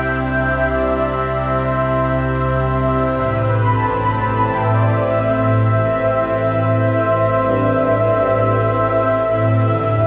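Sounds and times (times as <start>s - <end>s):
music of long held chords: 0.0s - 10.0s.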